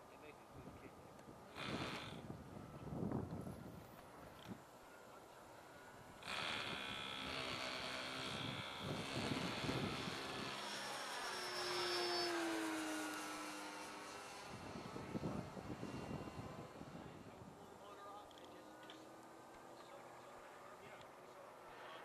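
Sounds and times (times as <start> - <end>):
model airplane engine buzzing: 0.1 - 22.0.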